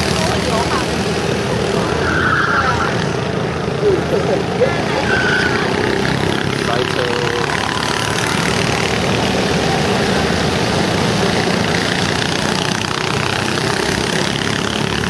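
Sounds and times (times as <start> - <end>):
go-kart engines droning: 0.0 - 15.0.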